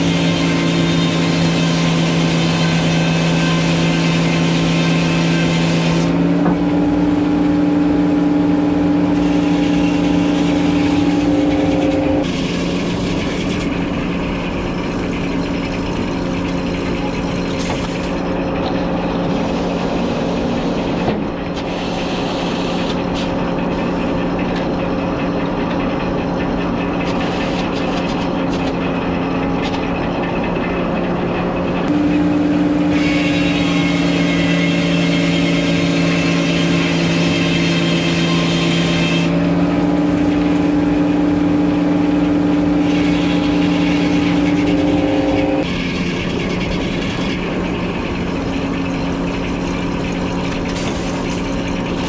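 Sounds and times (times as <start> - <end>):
sawmill engine running: 0.0 - 52.0.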